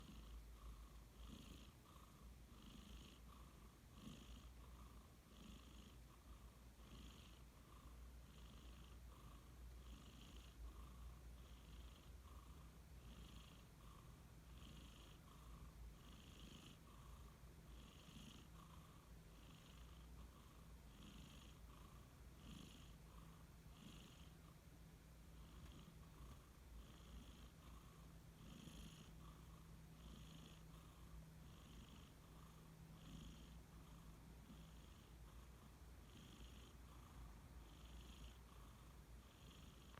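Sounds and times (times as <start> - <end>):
cat snoring: 0.0 - 39.9.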